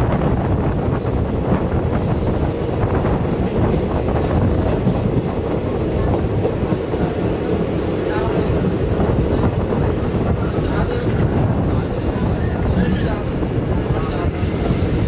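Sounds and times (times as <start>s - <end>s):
train wheels rumbling on rails: 0.0s - 15.0s
wind: 0.0s - 15.0s.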